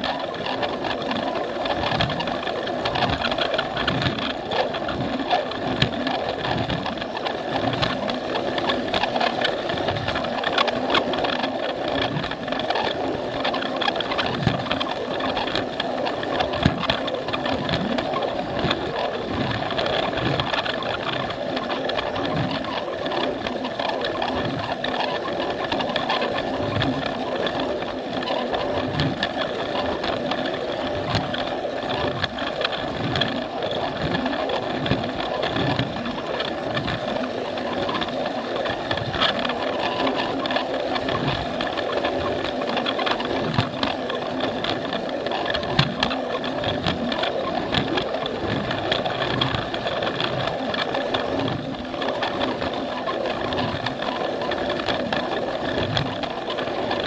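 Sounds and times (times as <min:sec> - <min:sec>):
toy train motor whine: 0:00.0 - 0:57.0
wheels knocking on track joints: 0:00.0 - 0:57.0.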